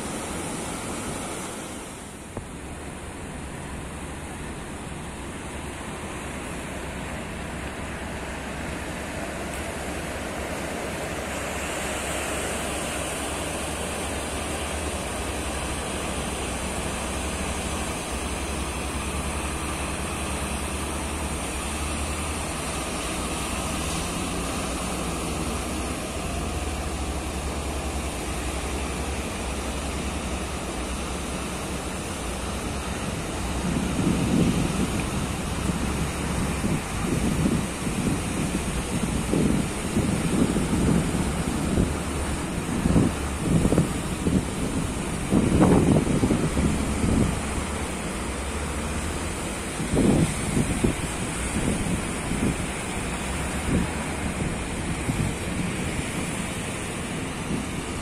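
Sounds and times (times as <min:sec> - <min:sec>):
boat engine humming: 0:00.0 - 0:58.0
breaking surf: 0:00.0 - 0:58.0
wind: 0:00.0 - 0:58.0.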